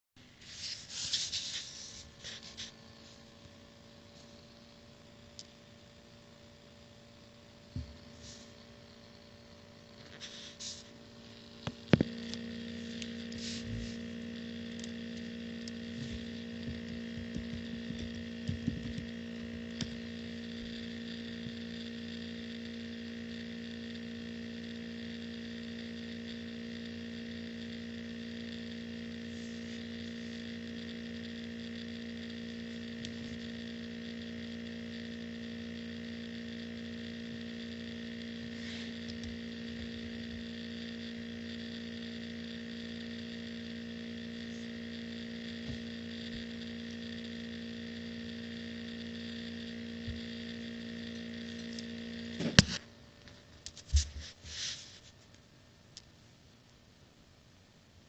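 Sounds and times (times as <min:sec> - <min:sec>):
laptop hum with whining tones: 0:00.2 - 0:58.0.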